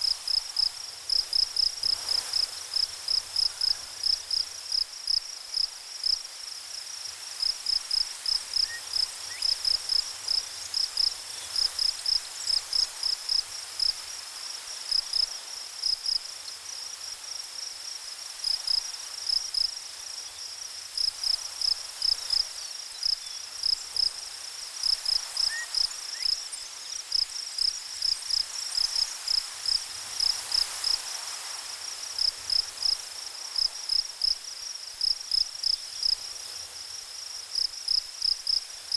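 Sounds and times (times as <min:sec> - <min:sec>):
cricket chirping: 0:00.0 - 0:38.9
faint hiss: 0:00.0 - 0:38.9.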